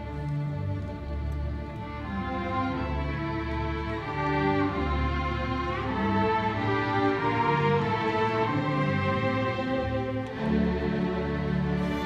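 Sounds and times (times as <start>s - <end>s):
string orchestra playing slow chords: 0.0s - 12.0s.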